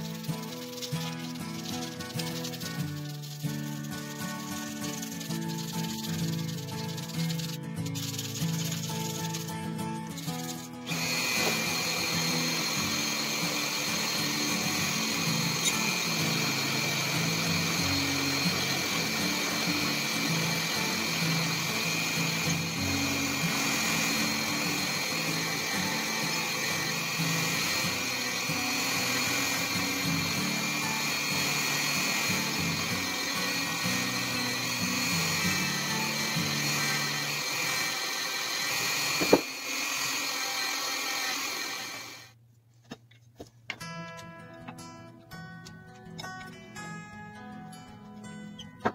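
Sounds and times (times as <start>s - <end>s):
rotary tool whining: 0.0s - 42.4s.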